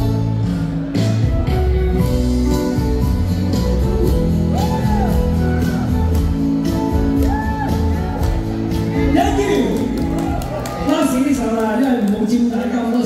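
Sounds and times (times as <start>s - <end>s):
bass and drums: 0.0s - 11.5s.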